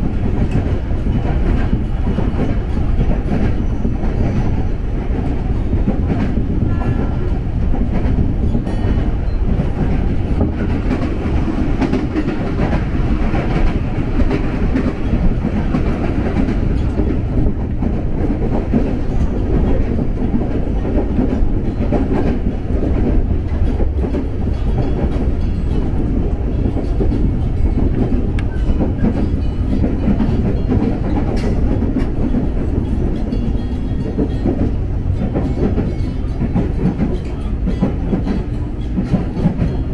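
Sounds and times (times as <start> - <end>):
electric train rumbling on rails: 0.0 - 39.9.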